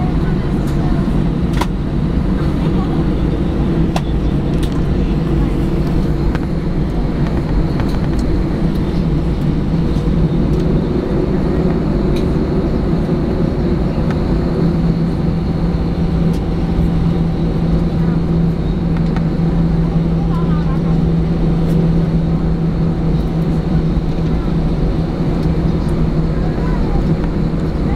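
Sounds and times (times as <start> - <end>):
jet engine cabin hum: 0.0 - 27.9.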